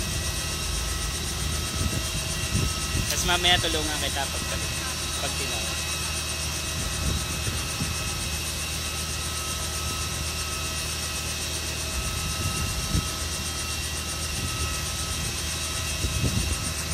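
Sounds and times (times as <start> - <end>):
helicopter idling: 0.0 - 16.9.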